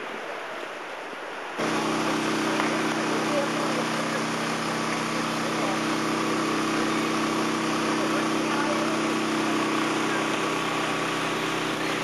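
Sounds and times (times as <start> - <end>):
machine hum with hiss: 1.6 - 12.0.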